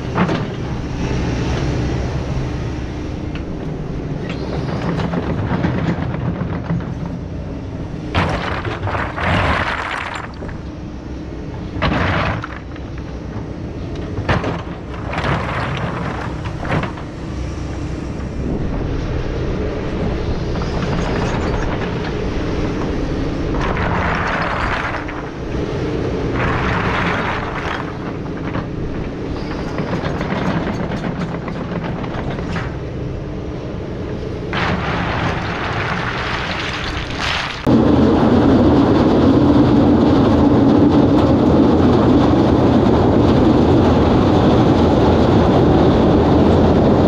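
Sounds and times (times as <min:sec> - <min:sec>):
excavator diesel engine: 0:00.0 - 0:47.0.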